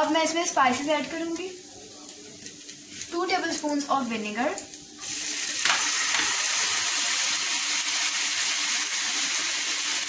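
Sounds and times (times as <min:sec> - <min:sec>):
liquid sizzling in hot pan: 0:00.0 - 0:10.0.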